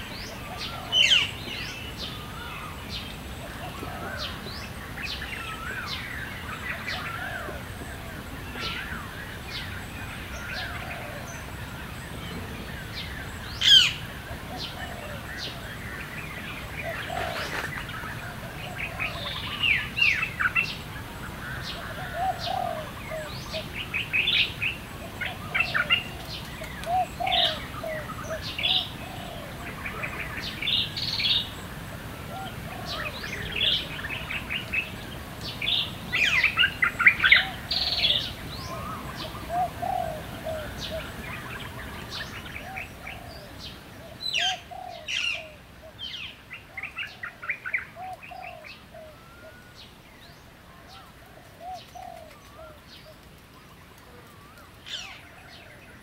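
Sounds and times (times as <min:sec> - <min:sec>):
low repeated bird calls: 0:00.0 - 0:56.0.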